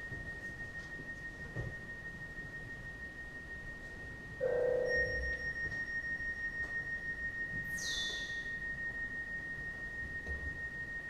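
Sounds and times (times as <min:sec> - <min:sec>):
high pure sine tone: 0:00.0 - 0:11.0.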